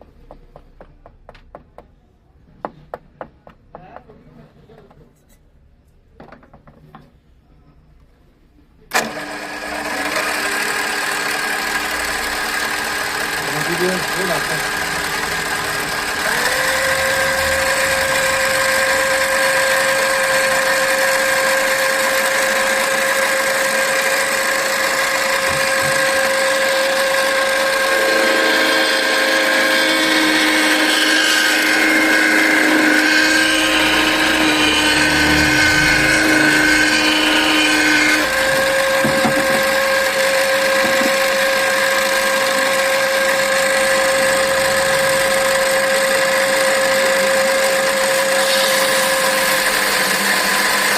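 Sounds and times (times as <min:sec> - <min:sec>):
lathe motor running: 0:08.9 - 0:50.9.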